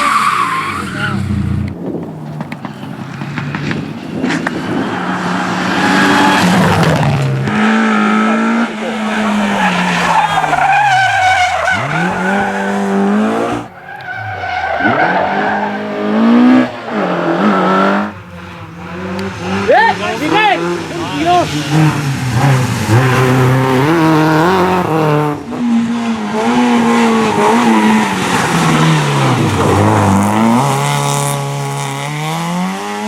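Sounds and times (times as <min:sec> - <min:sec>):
rally car engines revving: 0:00.0 - 0:33.0
tyres skidding: 0:00.0 - 0:33.0.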